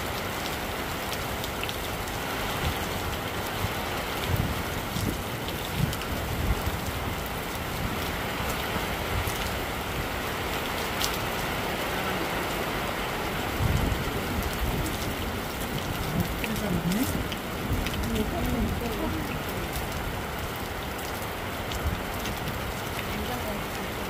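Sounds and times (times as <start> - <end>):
heavy rain hissing: 0.0 - 24.0.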